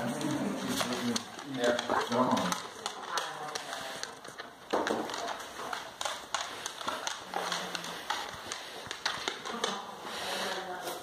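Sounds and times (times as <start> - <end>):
dog claws clicking on wood floor: 0.0 - 11.0.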